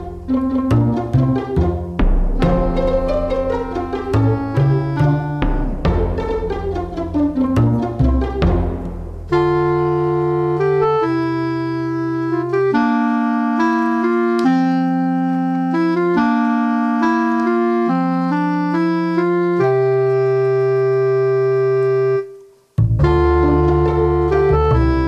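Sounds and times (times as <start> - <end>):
instrumental music with held chords: 0.0 - 25.0.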